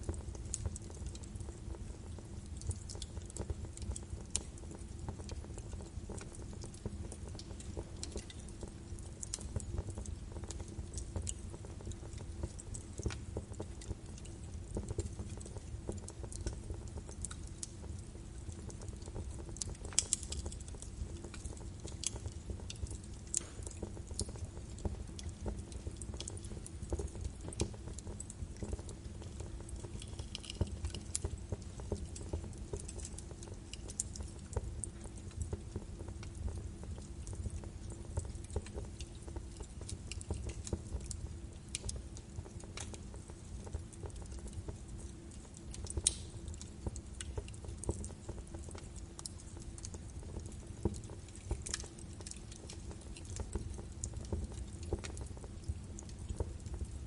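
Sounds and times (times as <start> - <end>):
fire crackles and pops: 0.0 - 57.0
fire rumbling in fireplace: 0.0 - 57.0.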